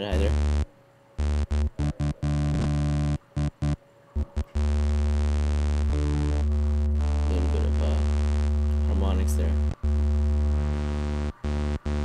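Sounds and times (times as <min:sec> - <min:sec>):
buzzing synthesizer bass note: 0:00.0 - 0:12.0.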